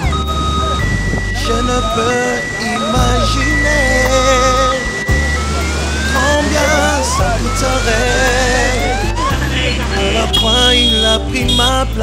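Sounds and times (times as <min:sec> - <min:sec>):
two-tone siren: 0:00.0 - 0:11.8
gospel singing with music: 0:00.0 - 0:12.0.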